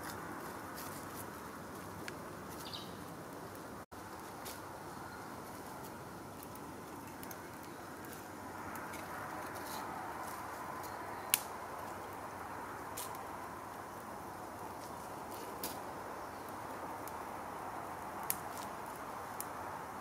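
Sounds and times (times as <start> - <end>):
kindling fire crackling: 0.0 - 20.0
steady hiss: 0.0 - 20.0.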